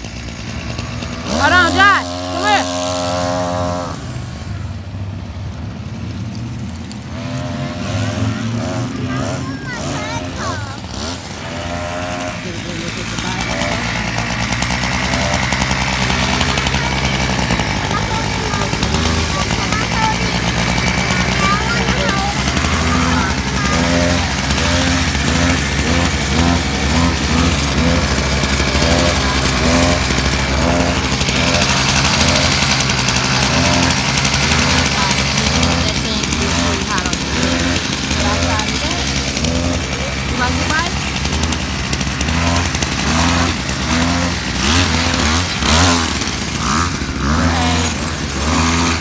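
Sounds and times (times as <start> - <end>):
mini motorcycle motor drone: 0.0 - 49.0.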